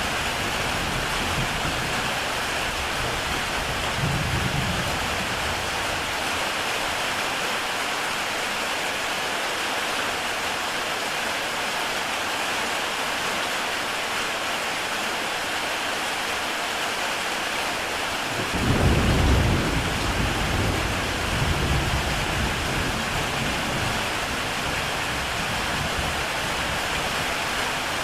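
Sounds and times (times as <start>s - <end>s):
heavy rain on a tile roof: 0.0s - 28.0s.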